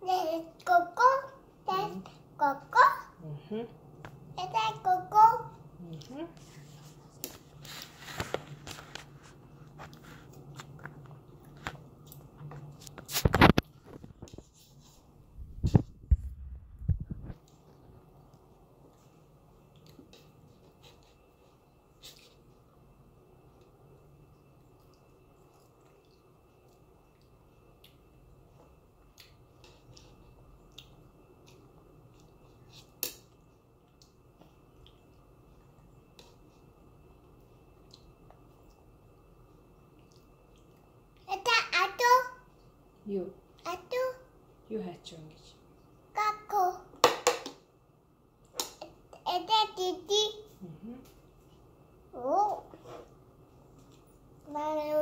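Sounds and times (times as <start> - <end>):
child chewing and mouth sounds: 3.8 - 44.6, 48.3 - 55.0.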